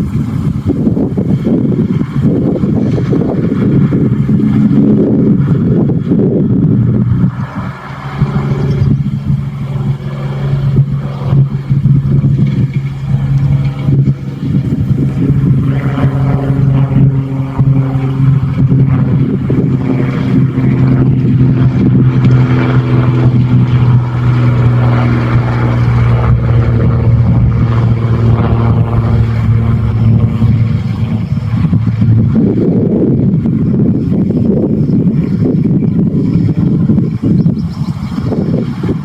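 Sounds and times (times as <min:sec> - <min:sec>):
tractor diesel engine running: 0:00.0 - 0:34.6.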